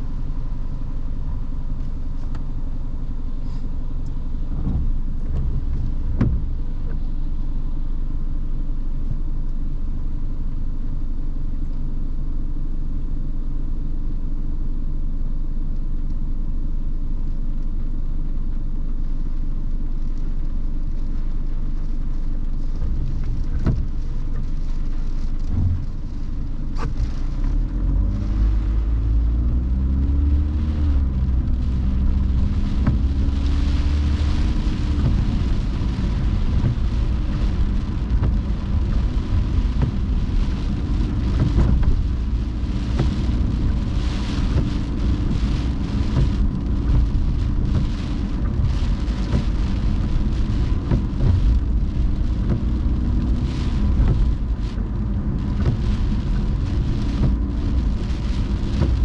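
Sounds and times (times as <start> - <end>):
raindrops ticking on car: 0.0 - 13.0, 17.2 - 59.0
car engine hum: 0.0 - 59.0
rain and wet tyres hissing: 0.0 - 59.0.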